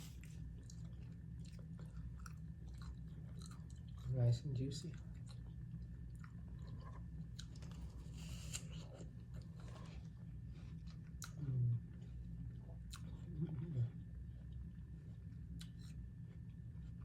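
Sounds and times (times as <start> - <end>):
person chewing food: 0.0 - 4.2, 4.8 - 17.0.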